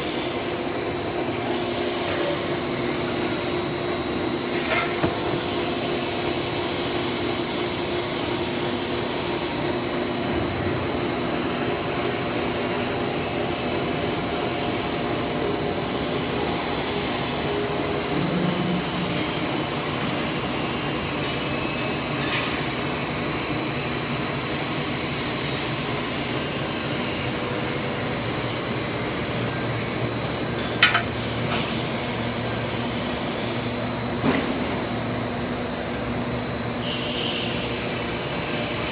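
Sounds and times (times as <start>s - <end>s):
machine drone: 0.0s - 38.9s.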